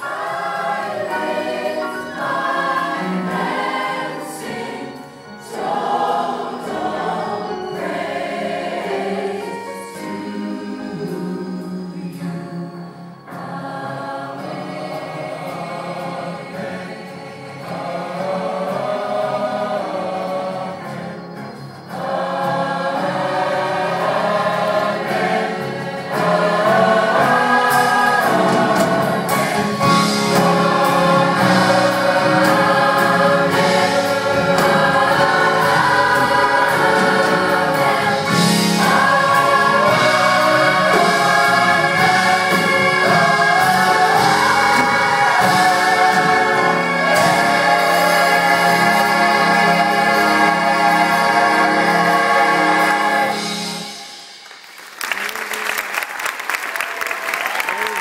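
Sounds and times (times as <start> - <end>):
gospel choir singing in harmony: 0.0 - 55.3.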